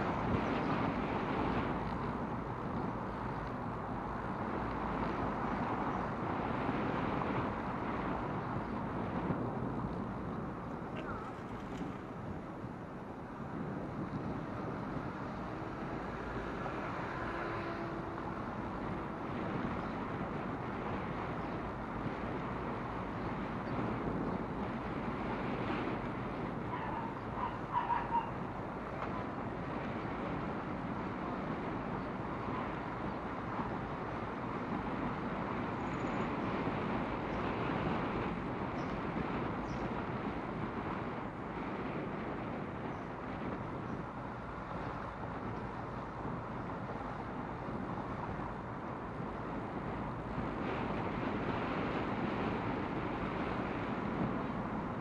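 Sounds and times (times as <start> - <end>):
traffic noise: 0.0 - 55.0
wind on microphone: 0.0 - 55.0.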